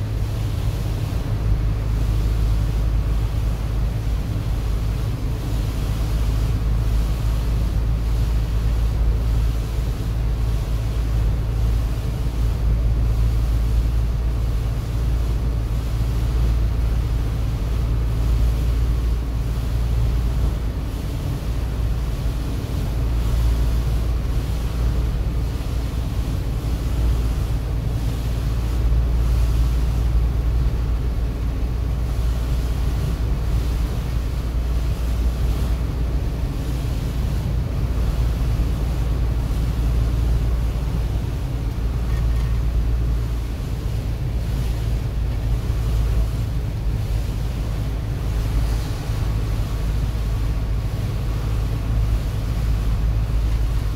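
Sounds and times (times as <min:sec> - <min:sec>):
tyres hissing on wet road: 0:00.0 - 0:53.9
vehicle engine rumble inside cabin: 0:00.0 - 0:53.9.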